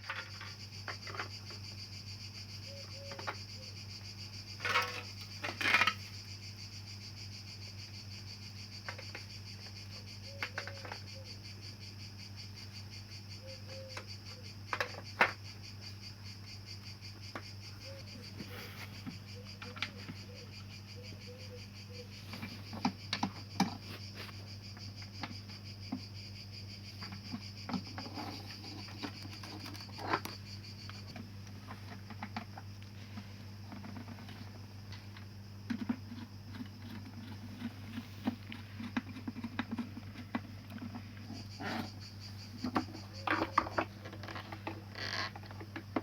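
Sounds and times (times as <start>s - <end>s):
high insect trill: 0.0s - 46.0s.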